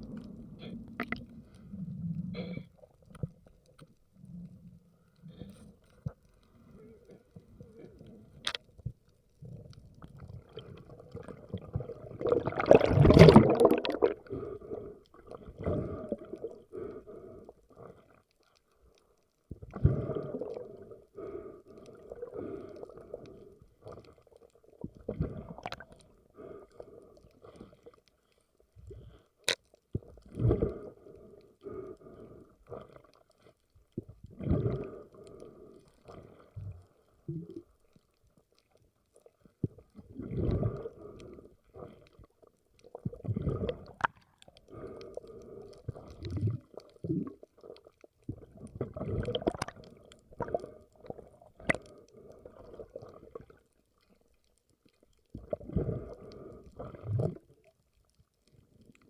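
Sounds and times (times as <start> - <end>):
water gurgling and sloshing: 0.0 - 59.0.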